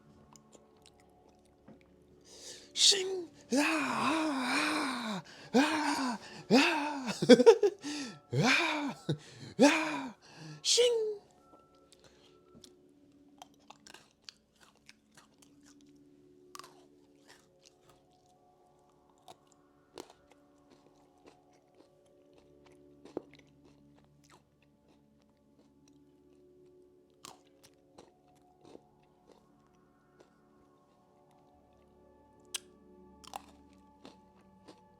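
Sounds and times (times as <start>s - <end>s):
crunching and chewing snack: 0.0s - 10.6s, 11.9s - 34.9s
quiet background music: 0.0s - 34.9s.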